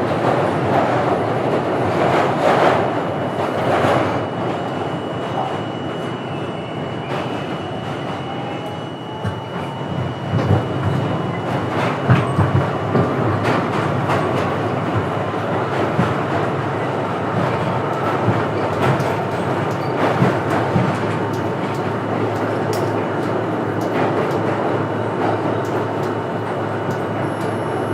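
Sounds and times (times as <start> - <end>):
subway train rumbling on rails: 0.0 - 27.9.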